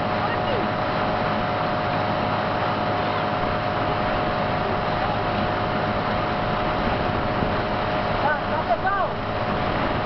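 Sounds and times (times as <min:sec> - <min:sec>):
motorboat engine running: 0:00.0 - 0:10.0
wind and water rushing: 0:00.0 - 0:10.0.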